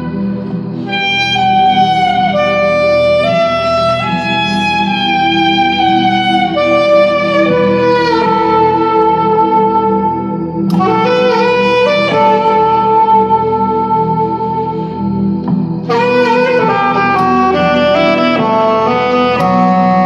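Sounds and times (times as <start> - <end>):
alto saxophone melody: 0.0 - 20.0
sustained backing chord: 0.0 - 20.0.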